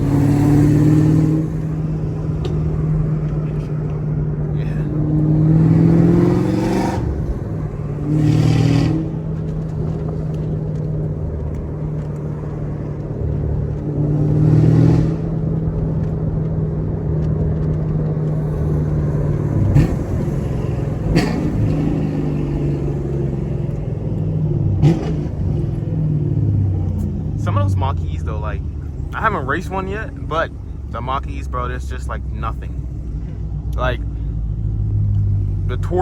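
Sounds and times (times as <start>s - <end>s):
car engine cruising: 0.0s - 36.0s.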